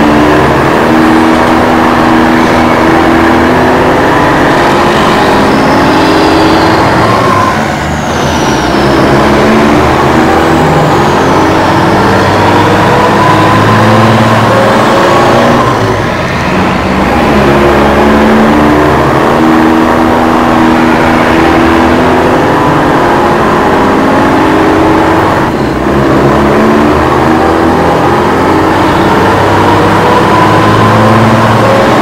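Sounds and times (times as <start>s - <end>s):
vehicle engine revving: 0.0s - 32.0s.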